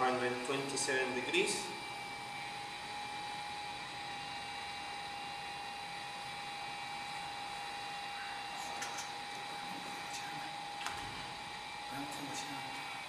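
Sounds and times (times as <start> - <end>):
cooling fan whirring: 0.0 - 13.0
mid-pitched whine: 0.0 - 13.0.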